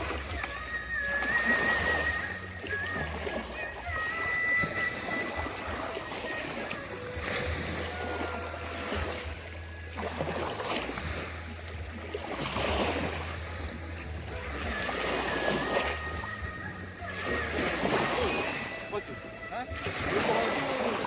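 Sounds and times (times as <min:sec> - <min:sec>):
water and waves: 0:00.0 - 0:21.0.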